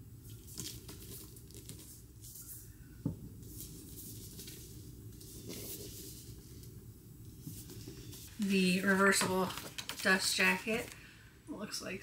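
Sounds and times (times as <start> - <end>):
book cover rustling against hands: 0.2 - 2.7, 3.4 - 11.0.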